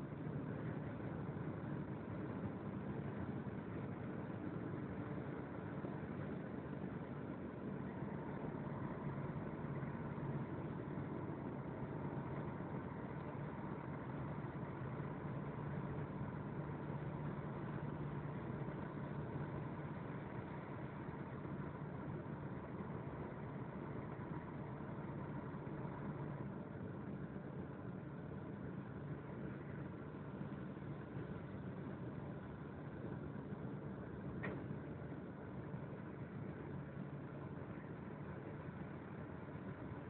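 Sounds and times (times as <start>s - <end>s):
constant low hum: 0.0s - 40.0s
vehicle engine drone: 0.0s - 40.0s.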